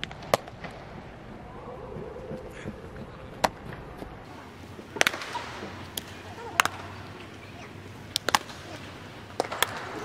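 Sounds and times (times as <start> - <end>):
indoor hall background noise: 0.0 - 10.0.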